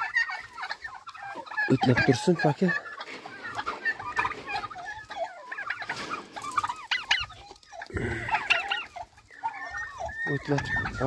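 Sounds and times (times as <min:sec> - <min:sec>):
turkeys chirping and clucking: 0:00.0 - 0:11.0.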